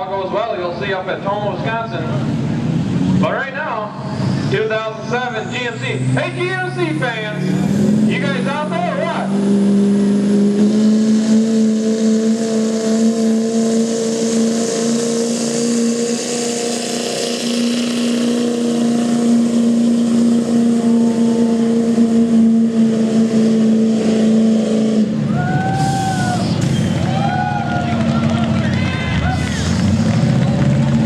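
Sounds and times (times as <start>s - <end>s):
pickup engine running at high revs: 2.1s - 31.0s.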